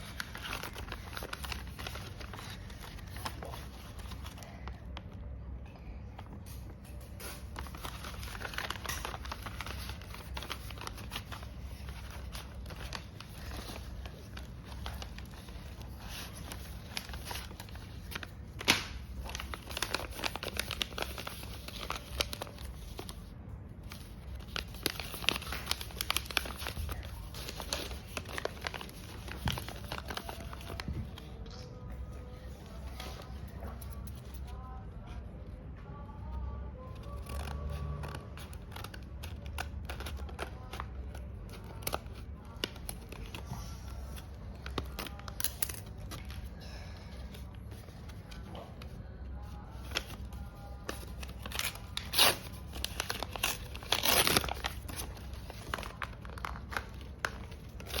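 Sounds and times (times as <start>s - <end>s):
paper crinkling and tearing: 0.0s - 5.3s, 6.4s - 34.8s, 36.8s - 58.0s.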